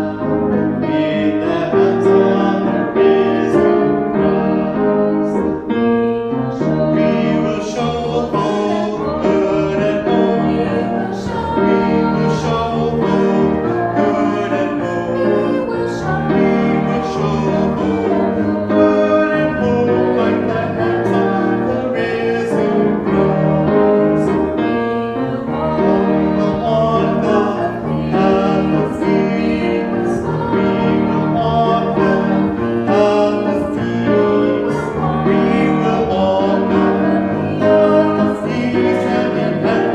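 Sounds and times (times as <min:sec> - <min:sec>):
piano: 0:00.0 - 0:39.9
voices singing a hymn: 0:00.0 - 0:39.9.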